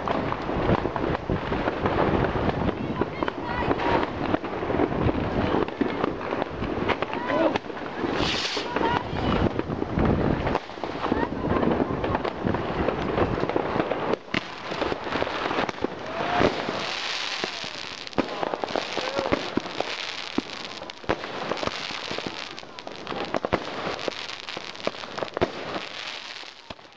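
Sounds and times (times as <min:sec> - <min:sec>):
crackling hiss of fireworks: 0:00.0 - 0:26.9
fireworks bangs and pops: 0:00.0 - 0:26.9.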